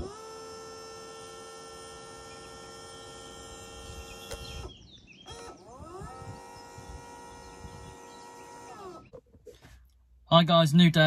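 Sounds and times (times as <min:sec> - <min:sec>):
electric propeller motors whining: 0:00.0 - 0:09.2.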